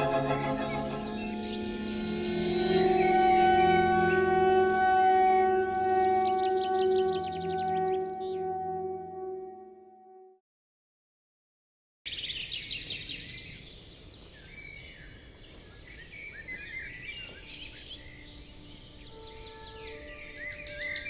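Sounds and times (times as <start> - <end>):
birds chirping and singing: 0.0 - 8.8, 12.1 - 21.0.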